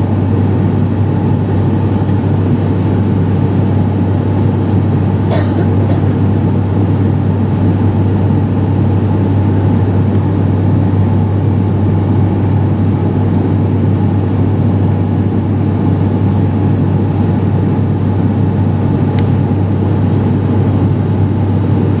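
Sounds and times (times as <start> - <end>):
propeller drone in cabin: 0.0 - 22.0.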